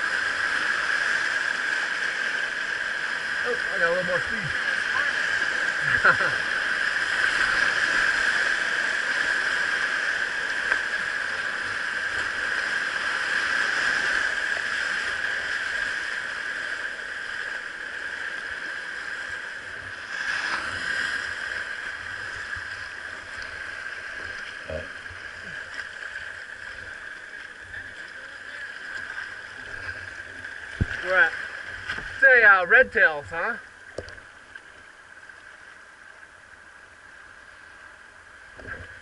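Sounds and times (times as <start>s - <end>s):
river current rushing: 0.0s - 39.0s.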